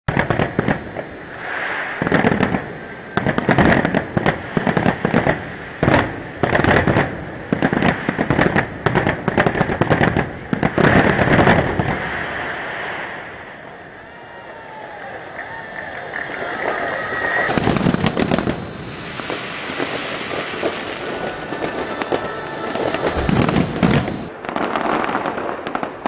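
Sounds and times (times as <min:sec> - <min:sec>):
firework shells bursting: 0:00.1 - 0:26.0
fireworks crackling: 0:00.1 - 0:26.0.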